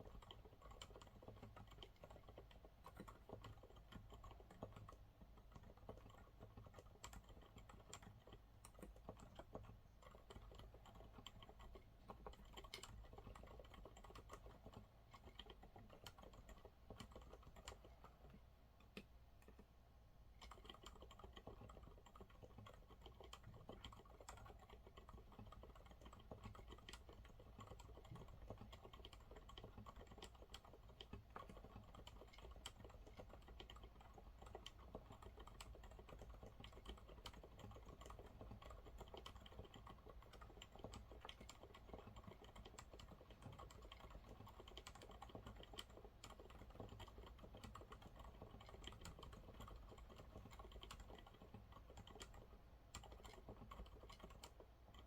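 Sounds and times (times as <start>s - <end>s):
soft keyboard typing: 0.0s - 55.0s.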